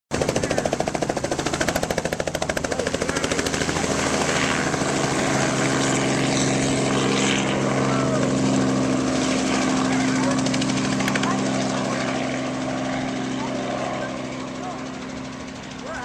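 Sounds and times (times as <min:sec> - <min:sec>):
helicopter rotor pulsing: 0:00.1 - 0:16.0.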